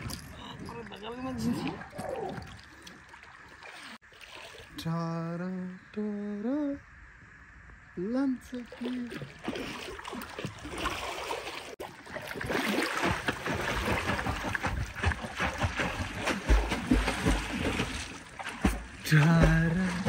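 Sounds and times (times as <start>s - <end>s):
water sloshing and splashing: 0.0s - 5.0s, 8.4s - 20.0s.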